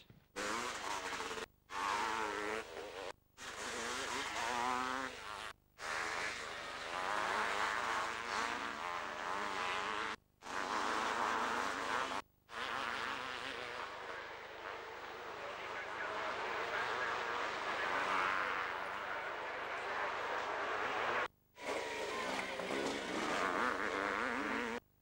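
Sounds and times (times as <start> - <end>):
motocross bike engines buzzing: 0.4 - 24.8.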